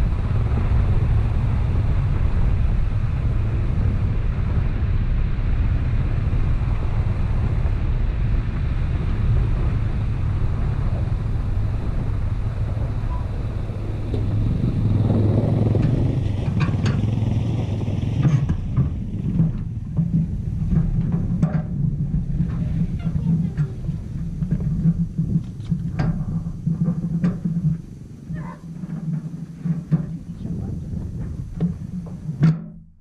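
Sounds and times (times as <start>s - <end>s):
truck engine rumble: 0.0s - 33.0s.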